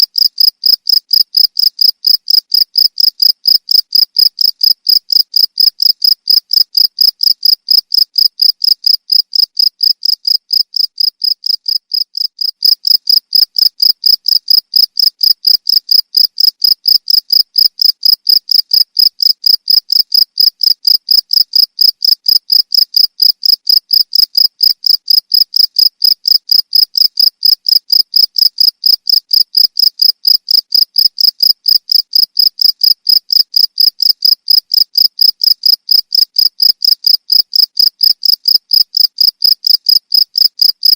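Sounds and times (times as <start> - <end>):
cricket chirping: 0.1 - 40.7.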